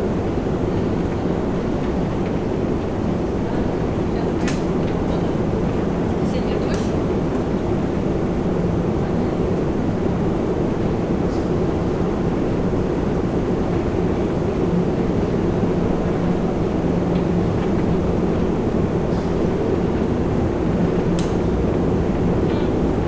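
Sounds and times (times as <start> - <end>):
escalator mechanical rumble: 0.0 - 23.0.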